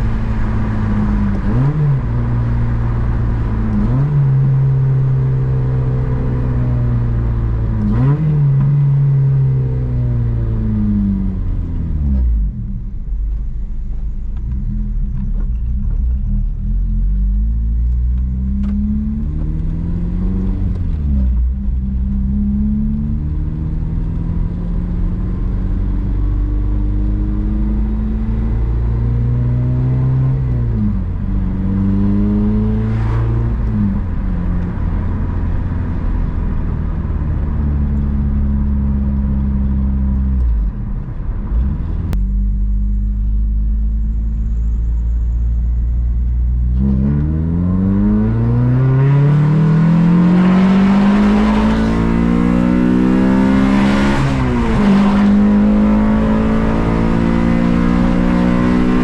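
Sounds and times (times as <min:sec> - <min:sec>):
car engine revving: 0:00.0 - 0:13.0, 0:14.4 - 0:59.0.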